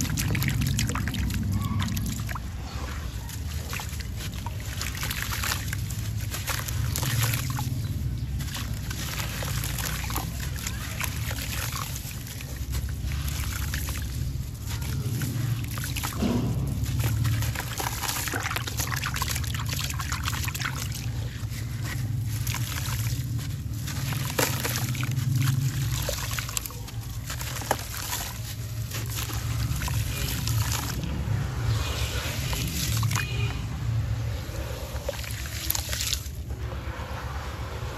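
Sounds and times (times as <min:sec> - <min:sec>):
gritty crackles of crumbling sand: 0:00.0 - 0:37.4
steady low rumble: 0:00.0 - 0:37.9
water trickling and sloshing: 0:00.0 - 0:37.9.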